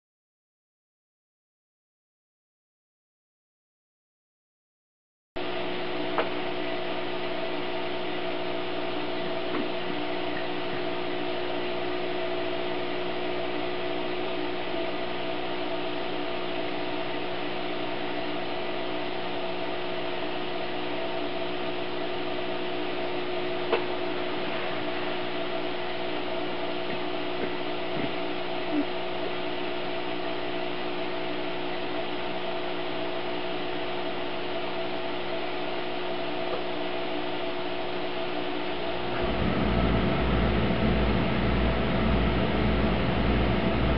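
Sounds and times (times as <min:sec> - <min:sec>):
aquarium equipment humming: 0:05.4 - 0:43.9.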